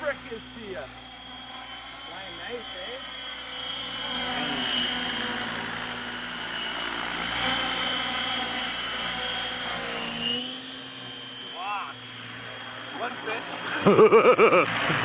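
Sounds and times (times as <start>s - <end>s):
model helicopter flying past: 0.0s - 15.0s.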